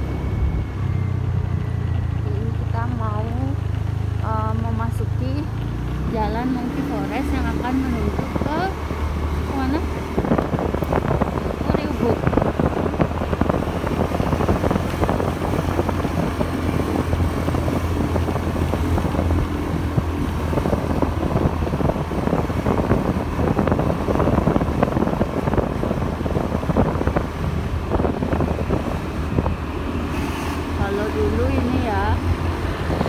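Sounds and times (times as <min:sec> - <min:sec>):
motorbike engine drone: 0:00.0 - 0:33.0
wind buffeting microphone: 0:00.0 - 0:33.0.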